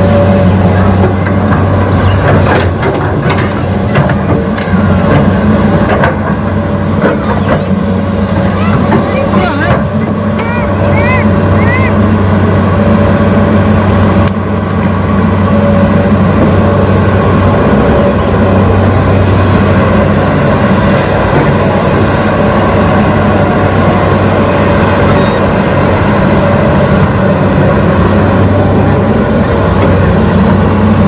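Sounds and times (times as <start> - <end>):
excavator engine droning: 0.0 - 31.0.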